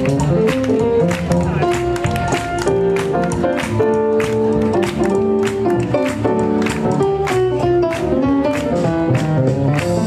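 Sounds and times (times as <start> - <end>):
swing jazz music: 0.0 - 10.0.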